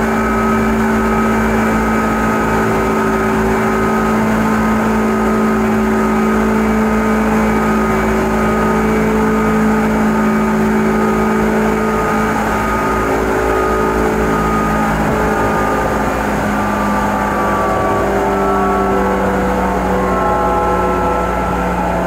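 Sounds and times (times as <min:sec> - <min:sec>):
train running rumble: 0:00.0 - 0:22.0
whining motor tones: 0:00.0 - 0:22.0.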